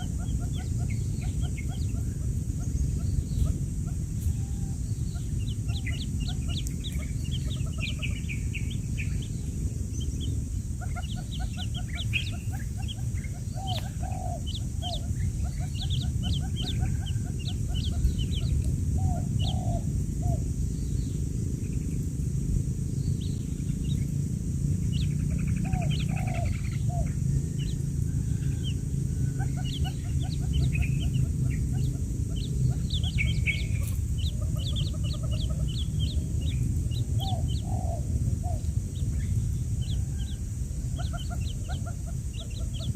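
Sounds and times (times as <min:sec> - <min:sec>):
chicks peeping: 0:00.0 - 0:42.9
steady low hum: 0:00.0 - 0:42.9.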